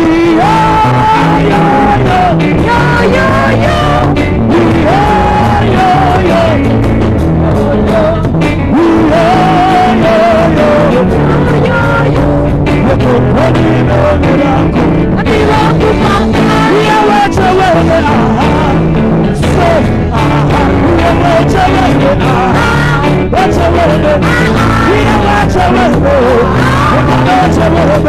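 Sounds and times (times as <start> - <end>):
band playing gospel music: 0.0 - 28.0
person singing: 0.0 - 28.0.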